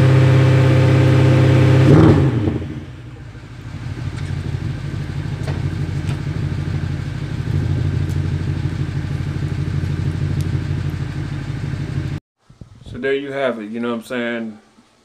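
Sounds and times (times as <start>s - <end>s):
car engine deep rumble: 0.0s - 12.2s.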